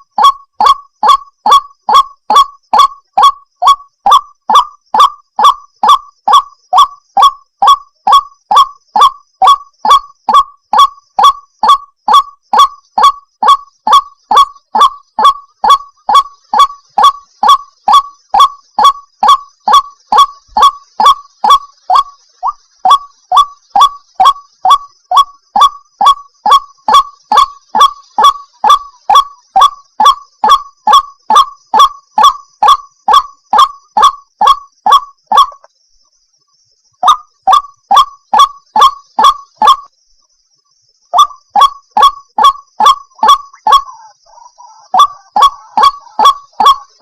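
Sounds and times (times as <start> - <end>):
waterhen calling: 0.0 - 35.7, 37.0 - 39.9, 41.2 - 47.0.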